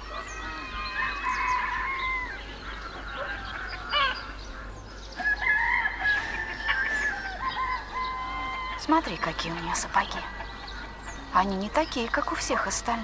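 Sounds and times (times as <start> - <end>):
poultry calling: 0.0 - 13.0.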